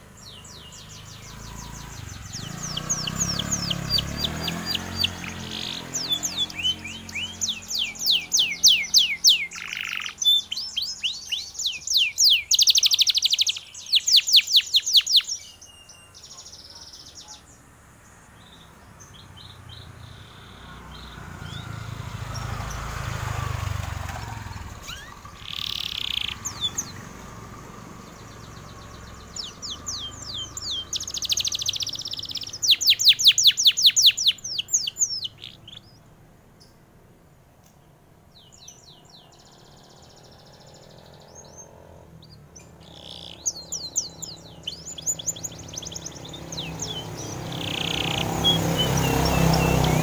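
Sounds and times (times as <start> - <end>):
canary singing: 0.0 - 36.8, 38.3 - 50.0.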